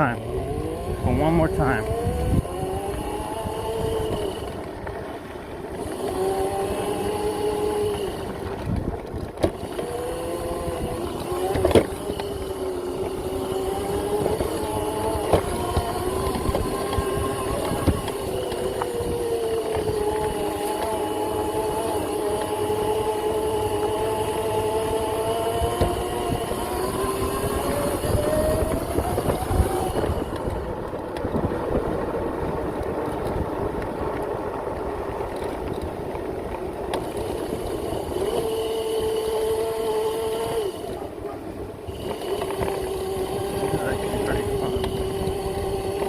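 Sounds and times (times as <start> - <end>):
electric motor whine: 0.0 - 46.0
rushing ride noise: 0.0 - 46.0.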